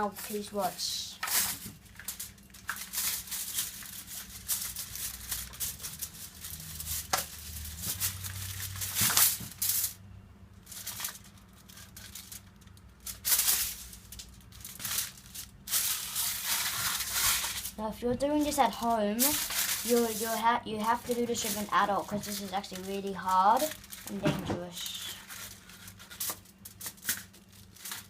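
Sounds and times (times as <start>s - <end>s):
hands rustling craft materials: 0.0s - 10.0s, 10.7s - 28.0s.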